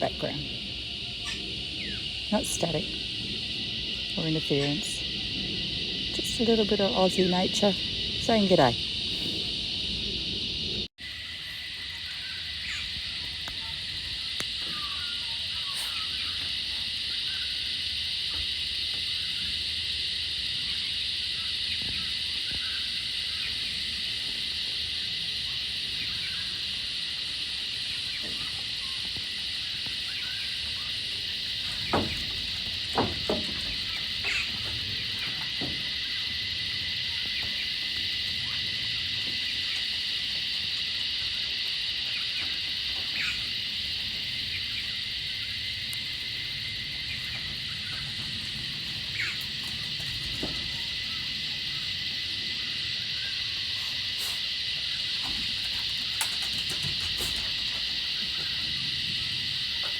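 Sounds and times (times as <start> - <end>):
cicadas chorus: 0.0 - 59.9.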